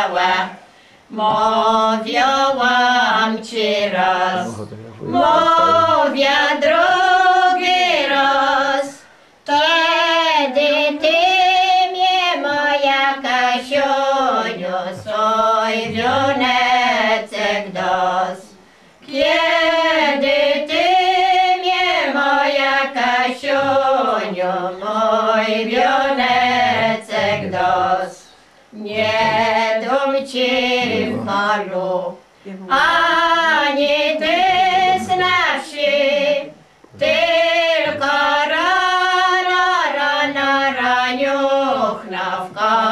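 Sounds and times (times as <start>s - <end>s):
women singing unaccompanied: 0.0s - 42.9s.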